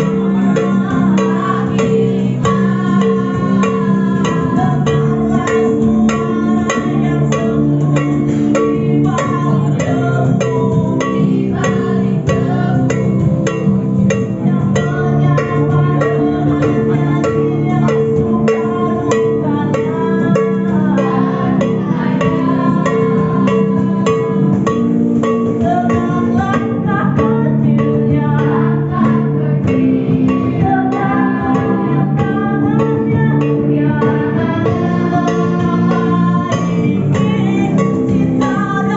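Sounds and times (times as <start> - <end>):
plucked string instrument music: 0.0 - 38.9.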